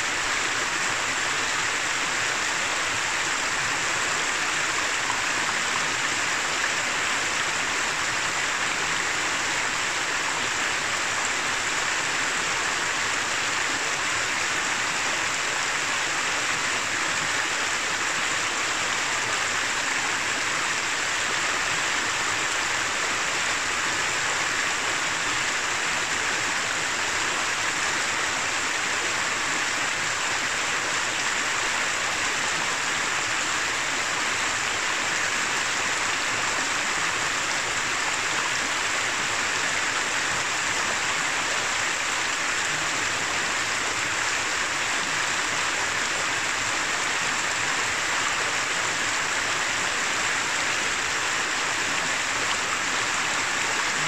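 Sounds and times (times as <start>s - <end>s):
river running over rocks: 0.0s - 54.0s.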